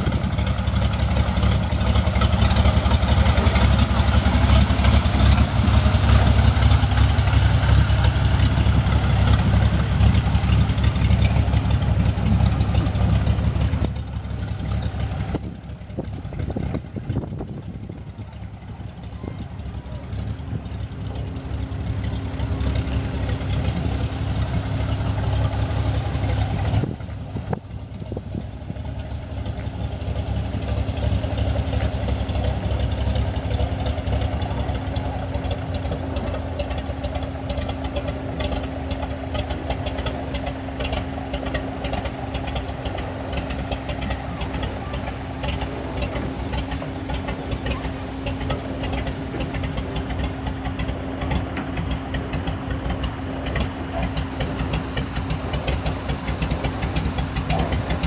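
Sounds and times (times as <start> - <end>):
floatplane engine droning: 0.0 - 58.0.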